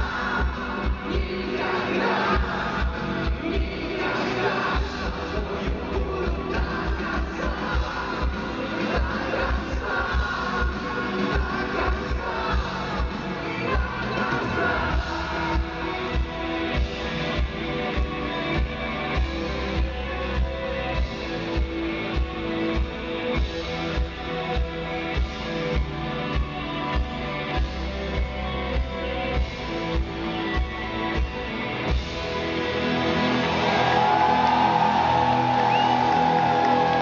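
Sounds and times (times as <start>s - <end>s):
electric guitar: 0.0s - 37.0s
rock band instrumental: 0.0s - 37.0s.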